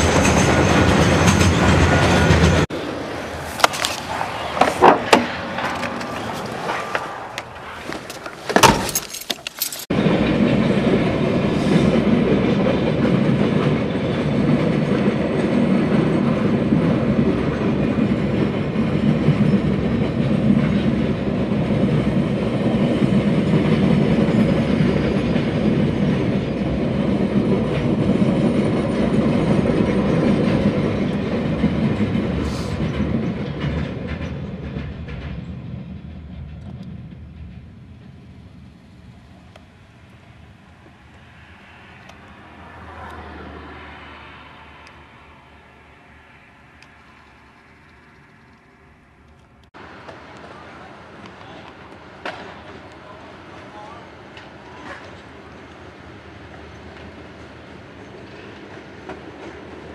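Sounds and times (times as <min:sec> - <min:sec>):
freight train rolling on rails: 0:00.0 - 0:59.9.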